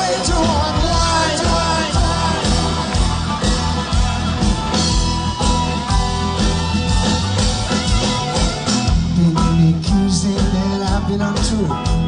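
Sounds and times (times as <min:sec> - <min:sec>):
bass guitar: 0:00.0 - 0:12.0
drum beat: 0:00.0 - 0:12.0
electric guitar: 0:00.0 - 0:12.0.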